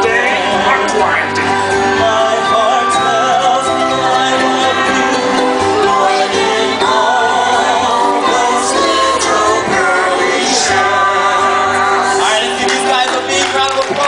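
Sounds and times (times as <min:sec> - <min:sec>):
person singing: 0:00.0 - 0:13.6
hula song: 0:00.0 - 0:14.0.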